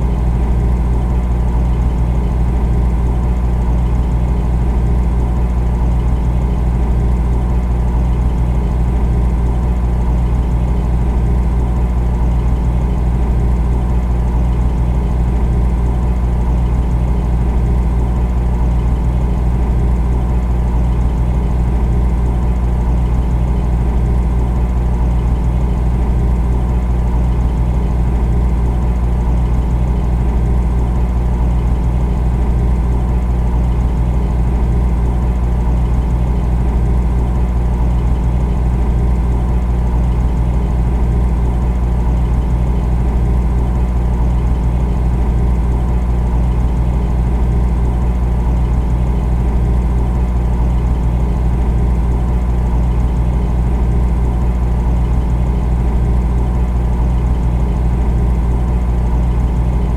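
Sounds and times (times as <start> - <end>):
refrigerator humming: 0.0 - 59.9.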